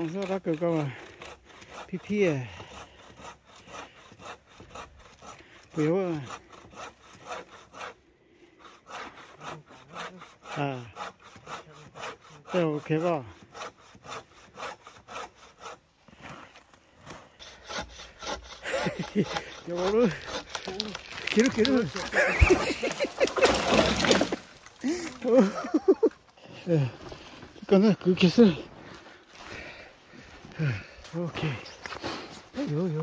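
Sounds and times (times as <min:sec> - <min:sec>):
hand saw cutting wood: 0:00.0 - 0:26.9, 0:30.5 - 0:33.0.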